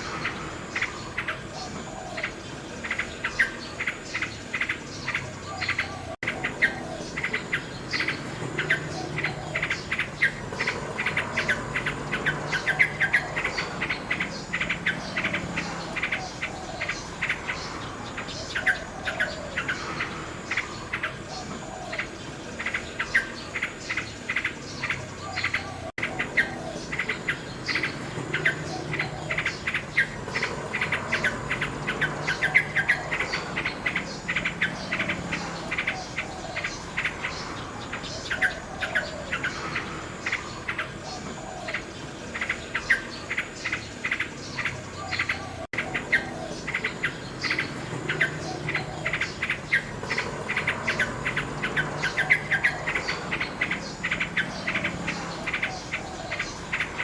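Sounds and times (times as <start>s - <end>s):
crickets chirping: 0.0s - 57.0s
nightingale singing: 0.0s - 57.0s.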